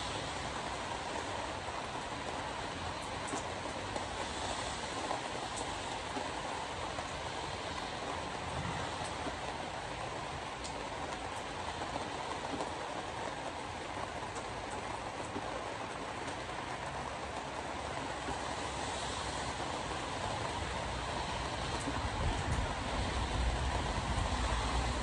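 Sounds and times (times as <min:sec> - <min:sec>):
car tyre noise on wet road: 0:00.0 - 0:25.0
raindrops ticking on windshield: 0:00.0 - 0:25.0.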